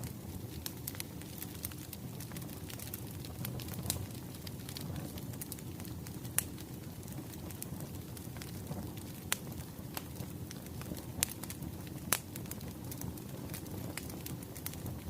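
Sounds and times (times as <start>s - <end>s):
fire pops and snaps: 0.0s - 15.0s
low rumble of burning logs: 0.0s - 15.0s.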